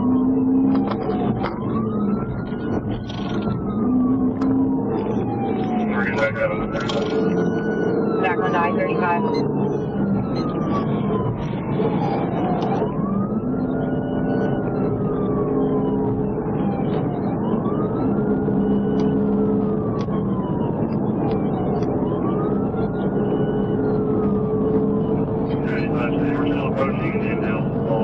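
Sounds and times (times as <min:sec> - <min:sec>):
police siren wailing: 0:00.0 - 0:28.0
road noise: 0:00.0 - 0:28.0.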